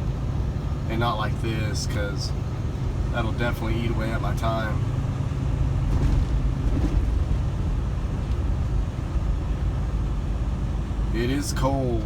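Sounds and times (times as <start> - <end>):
truck engine drone: 0.0 - 12.0
tyres on road: 0.0 - 12.0.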